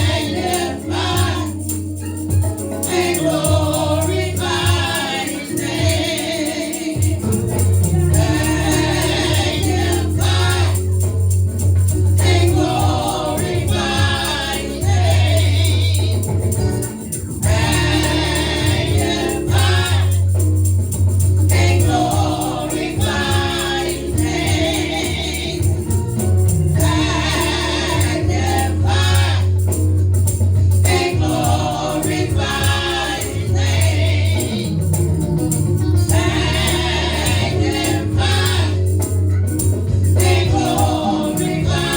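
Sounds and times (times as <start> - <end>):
bass line: 0.0 - 41.9
gospel choir singing with band: 0.0 - 41.9
tambourine: 0.0 - 41.9.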